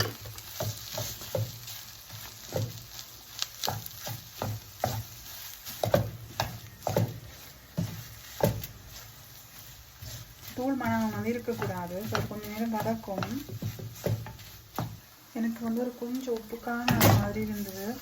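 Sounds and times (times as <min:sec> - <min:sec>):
soft sizzle: 0:00.0 - 0:18.0
spoon scraping a frying pan: 0:00.0 - 0:18.0.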